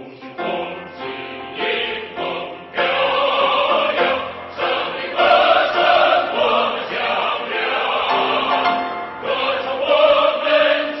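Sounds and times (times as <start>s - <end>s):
choral singing: 0.0s - 11.0s.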